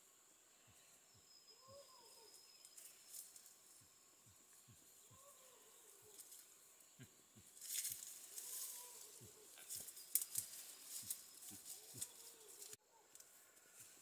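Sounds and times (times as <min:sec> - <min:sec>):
rustling of ferns and undergrowth: 0:01.8 - 0:14.0.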